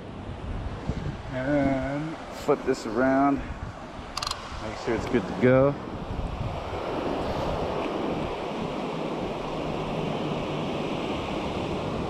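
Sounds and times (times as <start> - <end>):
wind buffeting microphone: 0.0 - 12.0
surf washing onto beach: 0.3 - 12.0.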